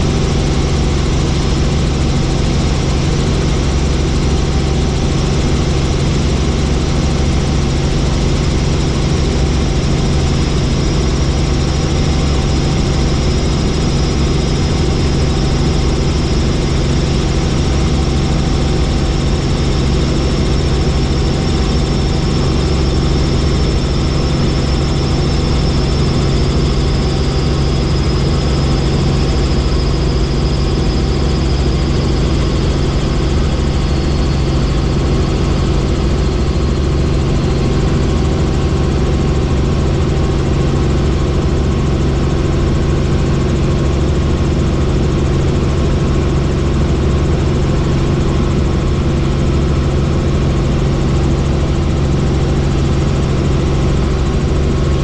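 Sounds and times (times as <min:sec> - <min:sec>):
faint high whine: 0:00.0 - 0:55.0
helicopter engine and rotor: 0:00.0 - 0:55.0.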